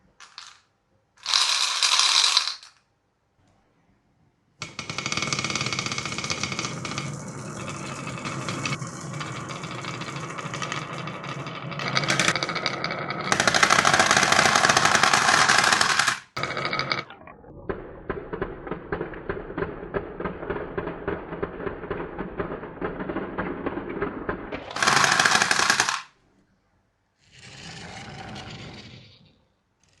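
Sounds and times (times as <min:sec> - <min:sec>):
marbles rolling and clattering: 0:00.0 - 0:02.9, 0:04.6 - 0:26.2, 0:27.3 - 0:29.4.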